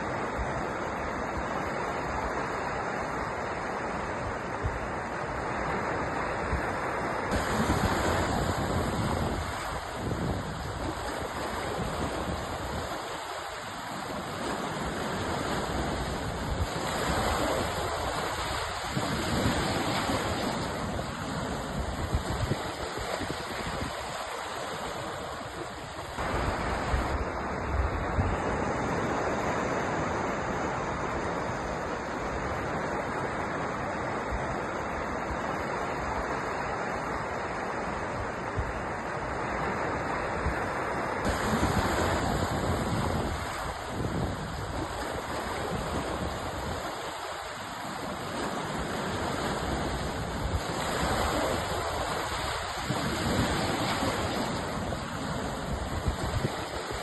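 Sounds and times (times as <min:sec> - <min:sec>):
sea waves and surf: 0:00.0 - 0:57.0.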